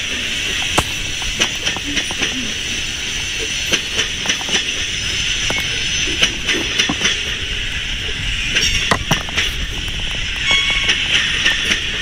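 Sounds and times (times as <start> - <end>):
freight train wheels clicking: 0.0 - 12.0
high-pitched wheel noise: 0.0 - 12.0.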